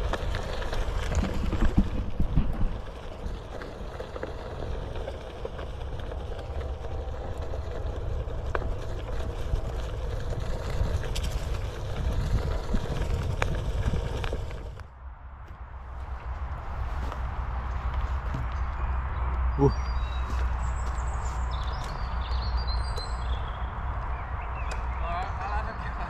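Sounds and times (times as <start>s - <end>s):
tyre rumbling over dirt: 0.0s - 18.9s, 19.6s - 24.2s.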